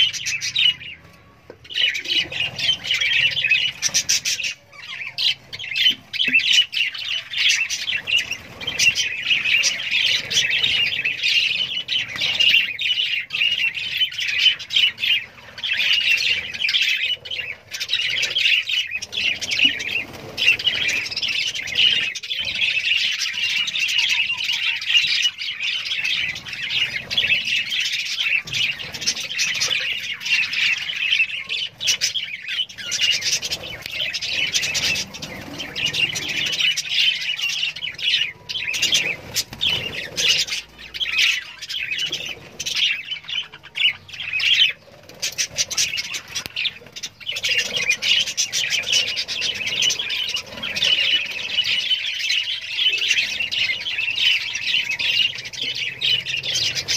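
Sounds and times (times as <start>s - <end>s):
budgerigars chattering and squawking: 0.0s - 56.9s.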